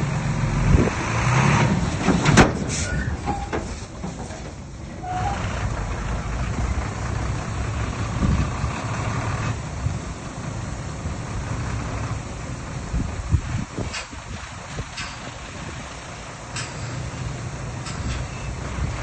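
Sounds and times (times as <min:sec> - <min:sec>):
heavy diesel machinery rumbling: 0:00.0 - 0:19.0.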